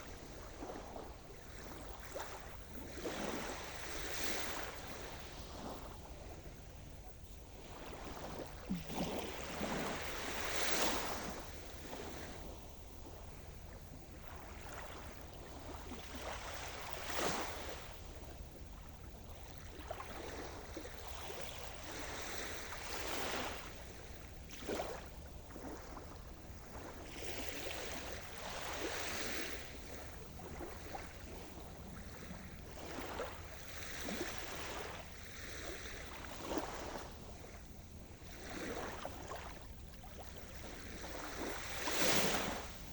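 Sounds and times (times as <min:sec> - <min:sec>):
waves breaking on shore: 0:00.0 - 0:42.9.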